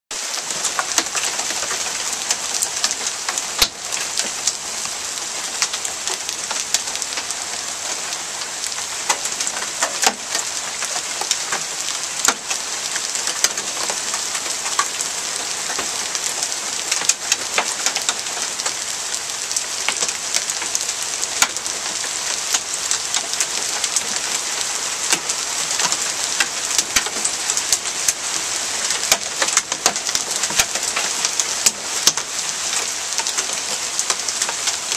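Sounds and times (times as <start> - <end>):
hailstones striking ground: 0.2 - 34.9
heavy rain hiss: 0.2 - 34.9.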